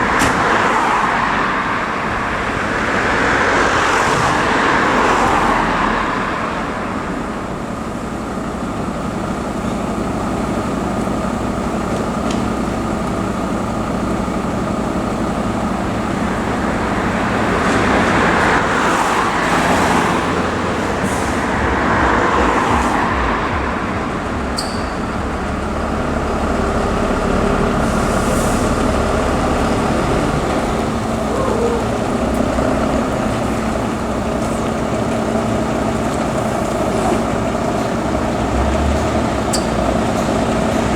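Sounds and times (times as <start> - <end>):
passing vehicles: 0.0 - 40.9
vehicle engines running: 0.0 - 40.9.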